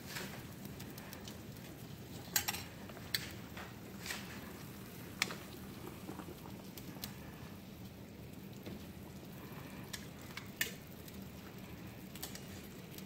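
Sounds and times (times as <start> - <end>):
pot boiling and bubbling: 0.0 - 13.0.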